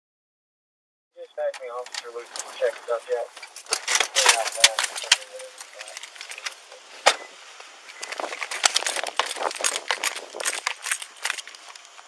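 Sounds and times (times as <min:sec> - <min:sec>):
gear rattling against body camera: 0:01.5 - 0:12.0.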